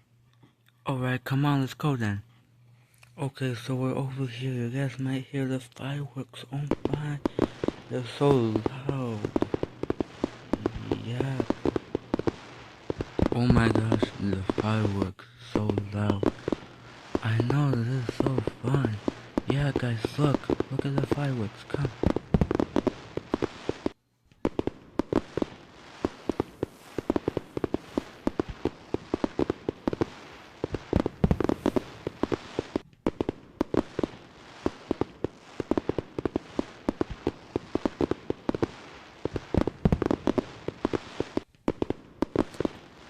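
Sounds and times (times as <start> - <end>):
fireworks cracking and popping: 5.8 - 43.0.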